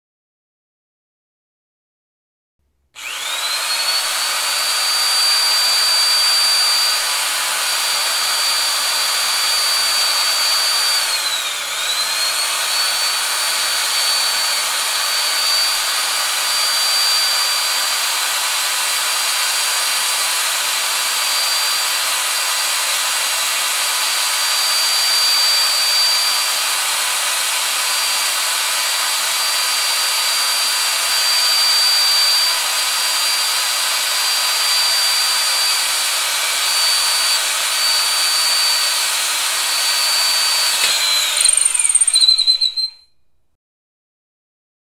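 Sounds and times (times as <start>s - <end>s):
power drill whining: 2.8s - 43.5s.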